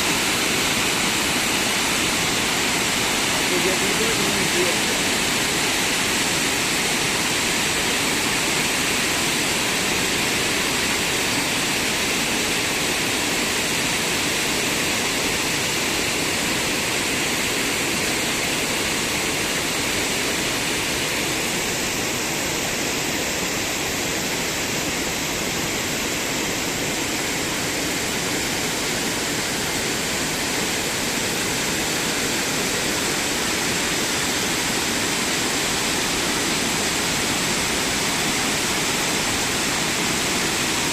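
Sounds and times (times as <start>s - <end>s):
fast-flowing water rushing: 0.0s - 40.9s.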